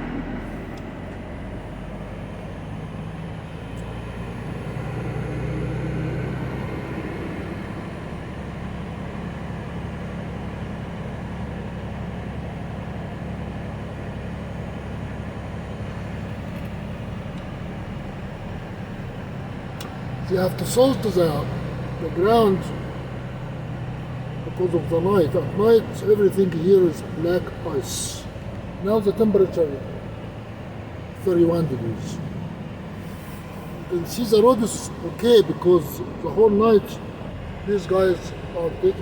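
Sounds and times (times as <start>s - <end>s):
heavy vehicle engine droning: 0.0s - 39.0s.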